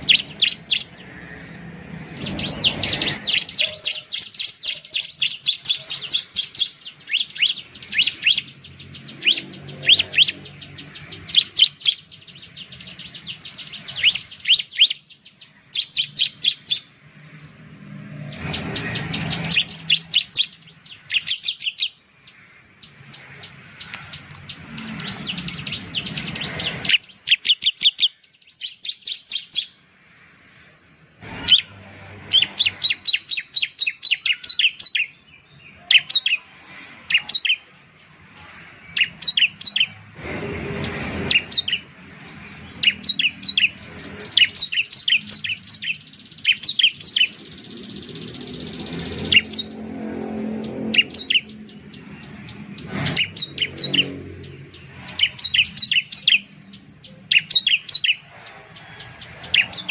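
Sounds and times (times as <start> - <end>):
bird singing high chirps: 0.0 - 40.1, 40.7 - 59.9.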